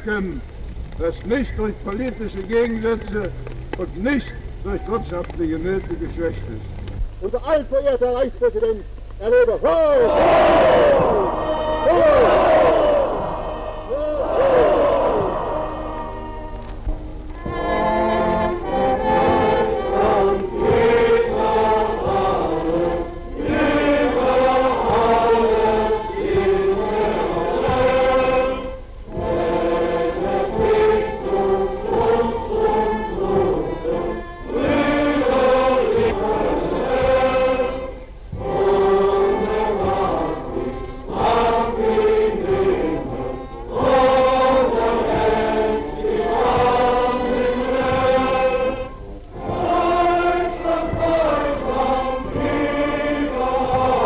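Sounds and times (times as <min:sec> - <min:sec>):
steady soundtrack hiss: 0:00.0 - 0:54.0
choir singing a hymn-like song: 0:09.9 - 0:54.0.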